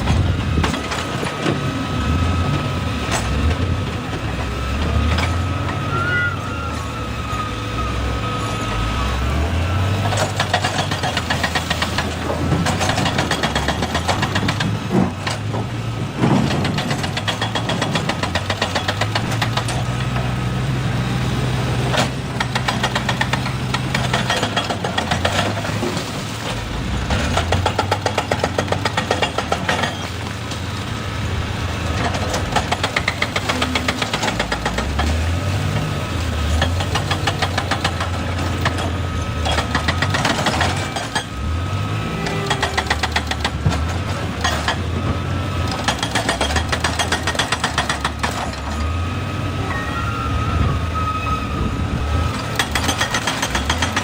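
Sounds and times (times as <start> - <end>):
excavator diesel engine revving: 0.0 - 54.0.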